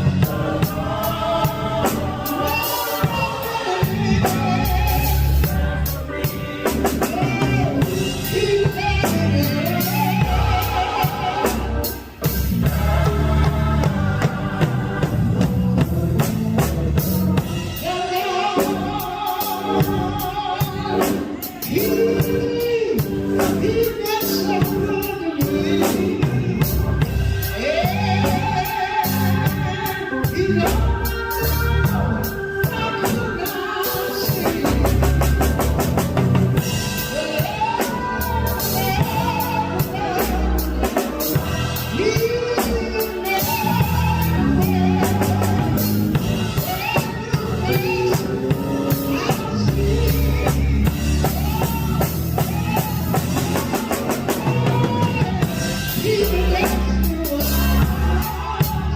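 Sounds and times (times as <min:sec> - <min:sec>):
drum kit beat: 0:00.0 - 0:58.9
gospel singing with band: 0:00.0 - 0:58.9.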